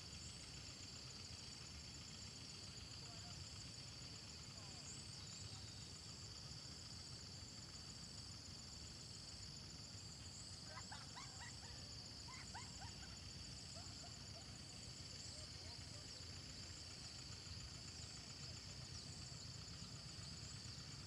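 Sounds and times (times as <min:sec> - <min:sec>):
insect chorus with pulsing trill: 0:00.0 - 0:21.0.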